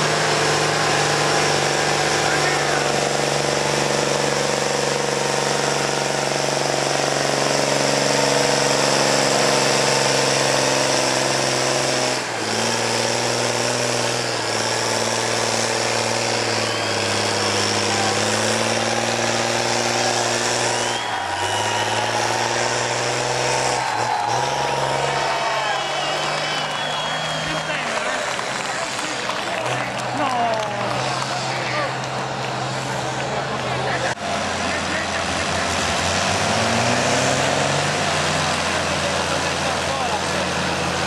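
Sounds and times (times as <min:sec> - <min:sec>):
tractor engine under heavy load: 0:00.0 - 0:41.0.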